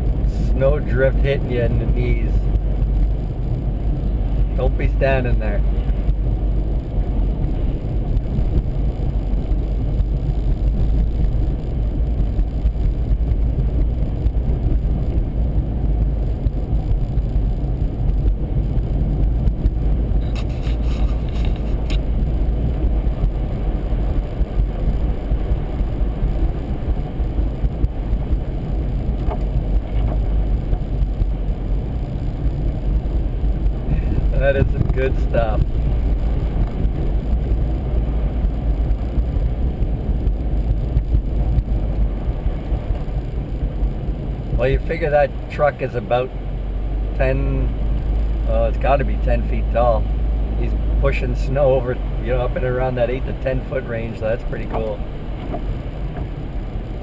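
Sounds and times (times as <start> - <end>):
vehicle cabin rumble: 0.0 - 57.0.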